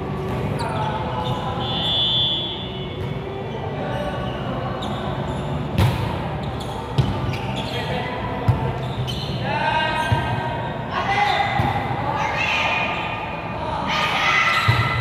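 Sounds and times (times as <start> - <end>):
hubbub of players' voices: 0.0 - 15.0.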